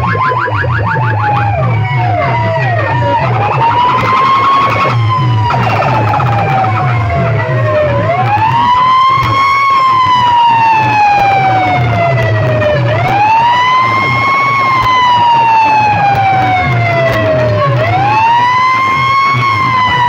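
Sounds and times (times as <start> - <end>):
fast low pulse: 0.0 - 18.2
siren sound effect wailing: 0.0 - 20.0.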